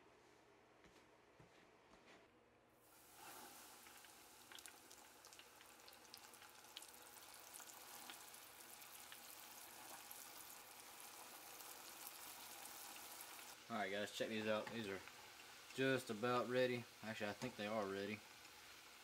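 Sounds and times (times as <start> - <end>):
deep-frying sizzle with pops: 2.9 - 19.0.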